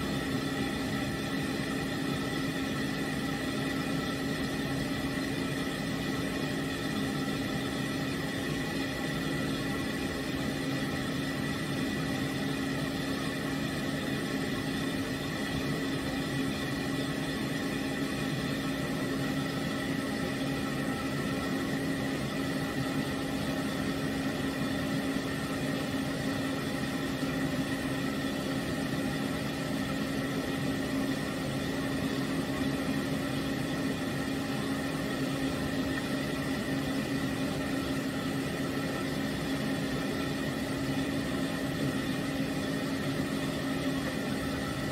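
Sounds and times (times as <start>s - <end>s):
pet dryer blowing air: 0.0s - 44.9s.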